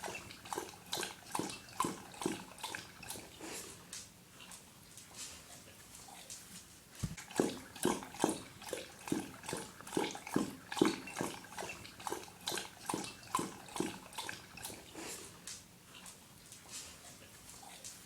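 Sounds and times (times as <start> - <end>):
dog lapping water: 0.0 - 6.0, 7.1 - 18.0.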